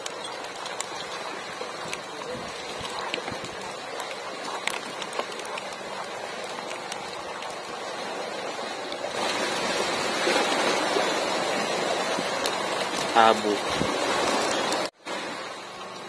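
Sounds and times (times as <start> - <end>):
running water hiss: 0.0 - 16.0.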